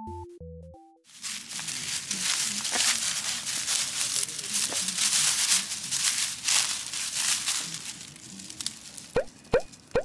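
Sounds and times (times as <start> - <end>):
dry leaves crunching under paws: 1.1 - 9.9.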